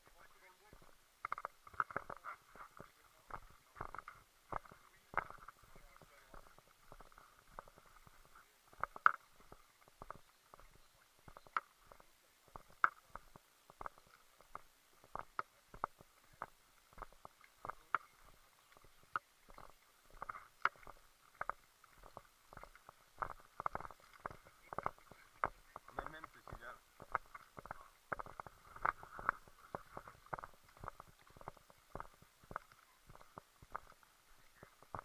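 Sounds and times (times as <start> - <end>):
faint irregular clicks and knocks: 0.0 - 35.0.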